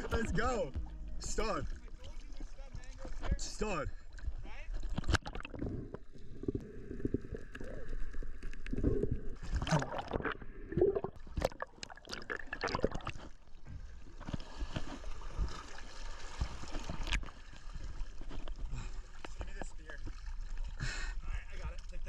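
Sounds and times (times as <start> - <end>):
water gurgling and sloshing: 0.0 - 22.0.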